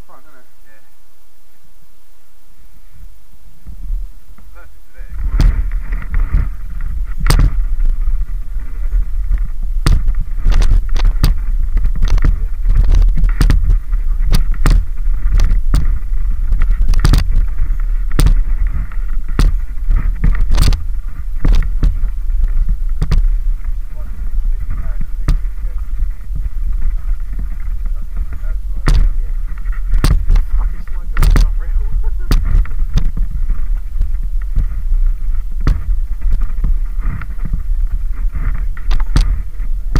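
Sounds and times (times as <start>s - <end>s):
steady low rumble: 0.0s - 39.9s
bike knocks and rattles: 5.0s - 39.9s.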